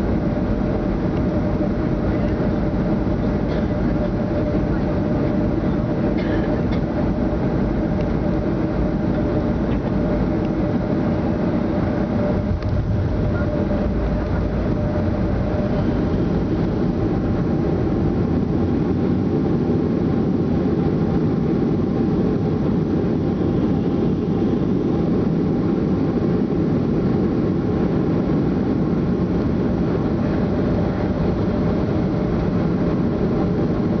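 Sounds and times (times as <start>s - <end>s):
jet engine and wheels rumbling: 0.0s - 34.0s.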